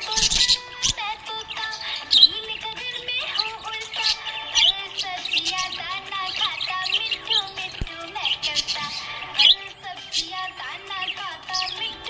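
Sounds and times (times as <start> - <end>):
background music: 0.0 - 12.0
budgies chirping and warbling: 0.0 - 12.0.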